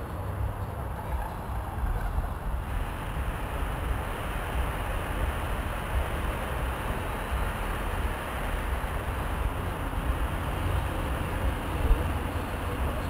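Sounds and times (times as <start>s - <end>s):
distant fireworks rumble and hiss: 0.0s - 13.0s.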